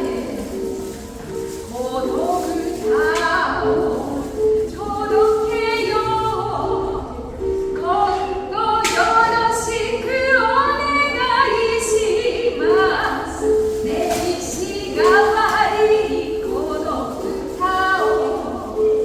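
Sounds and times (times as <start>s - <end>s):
woman singing slow melody: 1.7s - 19.0s.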